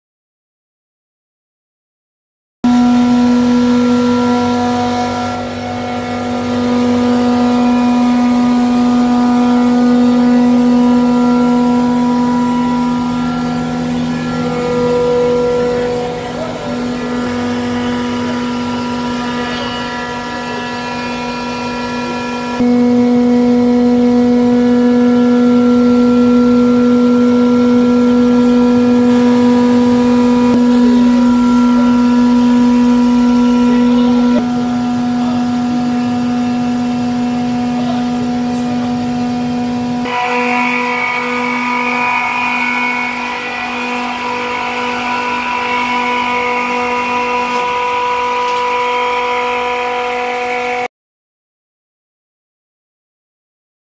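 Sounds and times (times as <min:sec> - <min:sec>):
refrigeration compressors humming: 0:02.7 - 0:50.9.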